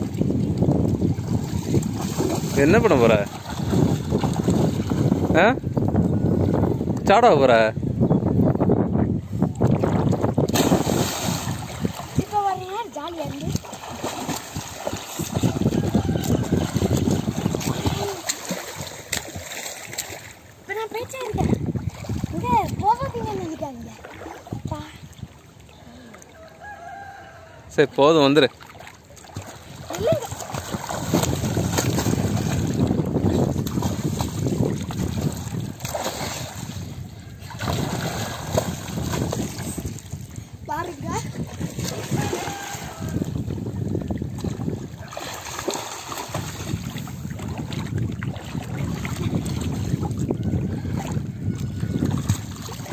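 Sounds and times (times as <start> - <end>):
wind buffeting microphone: 0.0 - 25.9, 29.2 - 52.9
water splashing and churning: 0.0 - 52.9.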